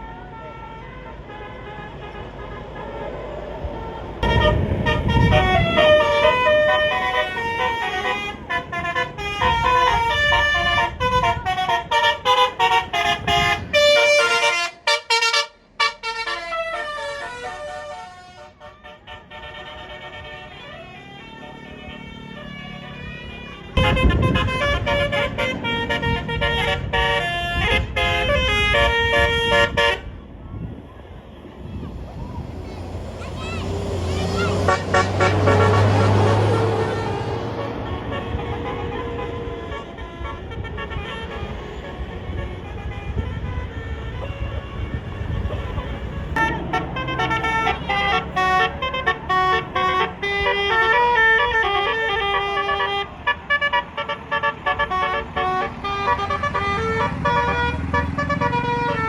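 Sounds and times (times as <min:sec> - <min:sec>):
bus melody horn: 0:00.0 - 0:59.0
low engine rumble: 0:00.3 - 0:59.0.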